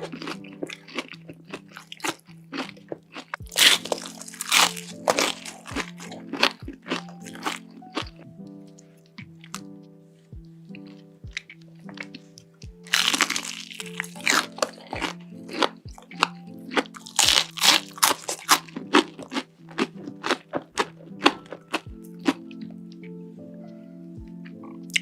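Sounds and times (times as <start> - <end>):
person chewing crunchy food: 0.0 - 9.7, 10.7 - 23.2, 24.2 - 25.0
background music with held notes: 0.0 - 25.0.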